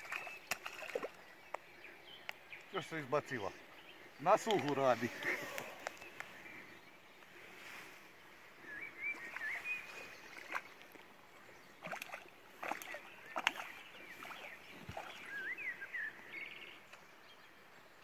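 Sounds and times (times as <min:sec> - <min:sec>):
small bird singing: 0:00.0 - 0:17.7.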